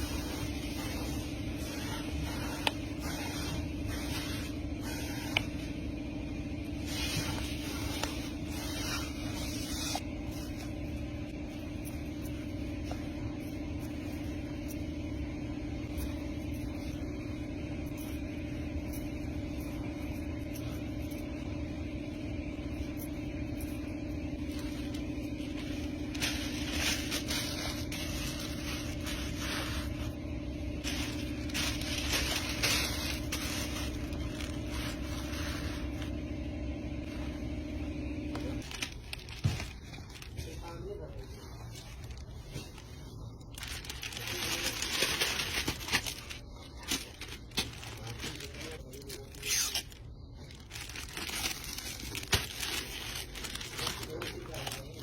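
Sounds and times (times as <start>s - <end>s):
factory machinery humming: 0.0s - 55.0s.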